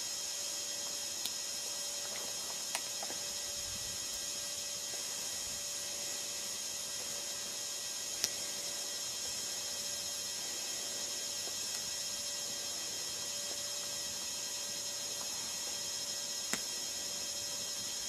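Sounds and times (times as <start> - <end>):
faint hum: 0.0 - 18.0
steady high hiss: 0.0 - 18.0.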